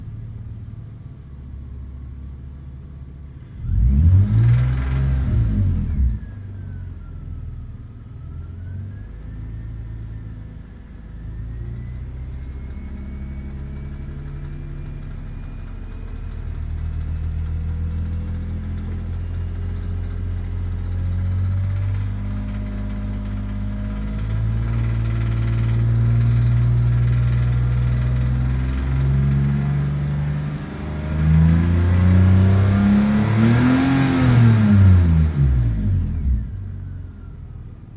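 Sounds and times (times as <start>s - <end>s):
car engine revving: 3.4s - 6.8s, 8.2s - 37.9s.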